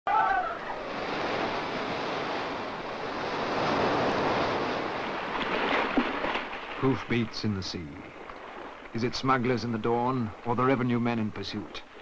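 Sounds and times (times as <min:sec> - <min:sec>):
surf washing over rocks: 0:00.1 - 0:12.0.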